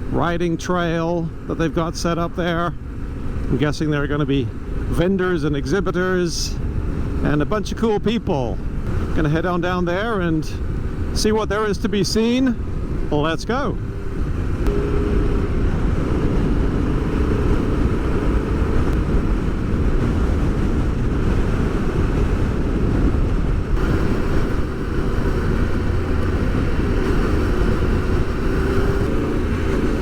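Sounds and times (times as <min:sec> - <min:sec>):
motorcycle engine drone: 0:00.0 - 0:30.0
rushing wind: 0:00.0 - 0:30.0.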